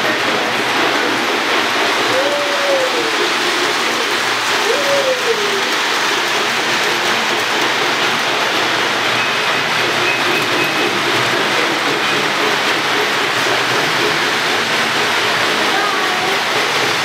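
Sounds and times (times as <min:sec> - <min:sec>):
toy trains running on track: 0:00.0 - 0:17.0.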